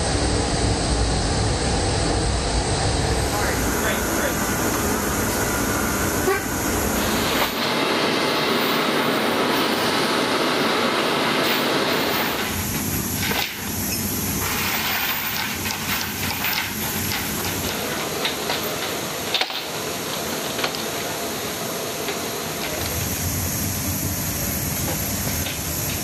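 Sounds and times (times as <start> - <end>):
machinery noise: 0.0 - 26.0.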